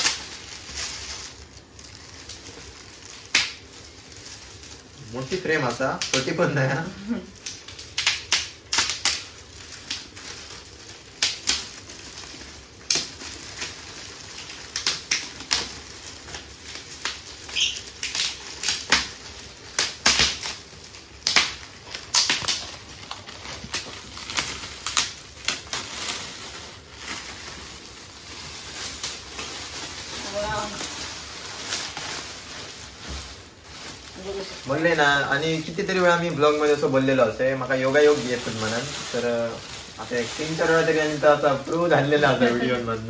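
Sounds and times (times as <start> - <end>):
gift wrapping tearing: 0.0 - 43.0.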